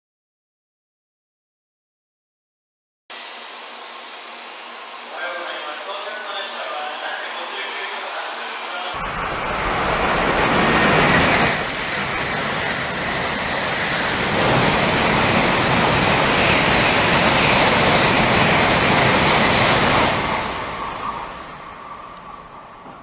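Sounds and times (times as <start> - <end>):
high-speed trains passing: 3.2 - 23.0.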